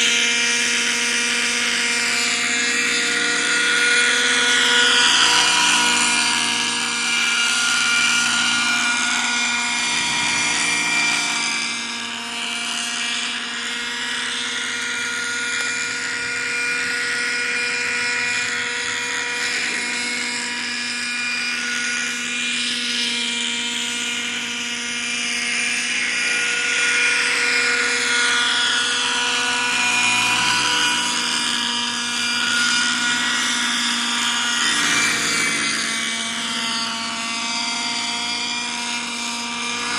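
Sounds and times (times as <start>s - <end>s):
model helicopter high whine: 0.0s - 39.9s.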